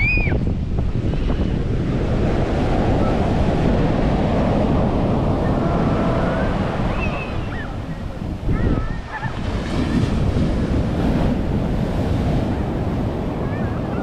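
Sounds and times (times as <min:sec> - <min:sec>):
ocean surf washing on sand: 0:00.0 - 0:14.0
wind buffeting microphone: 0:00.0 - 0:14.0.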